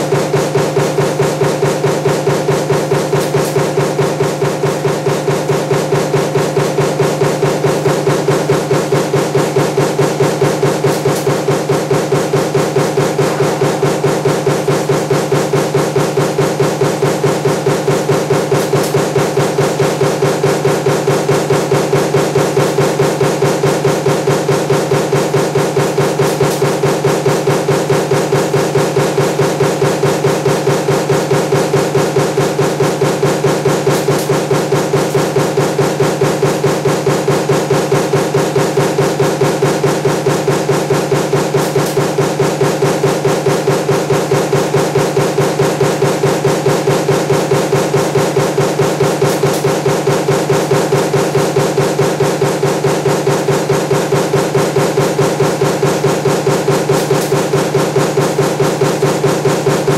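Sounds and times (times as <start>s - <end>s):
power press stamping: 0.0s - 59.9s
steady machine hum: 0.0s - 59.9s.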